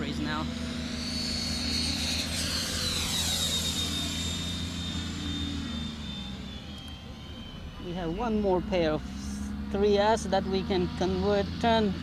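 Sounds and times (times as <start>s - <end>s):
jet fan whining: 0.0s - 12.0s.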